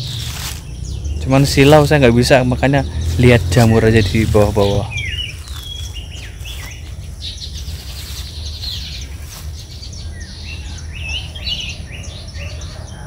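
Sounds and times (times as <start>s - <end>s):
low background rumble: 0.0s - 13.0s
wild birds chirping: 0.0s - 13.0s.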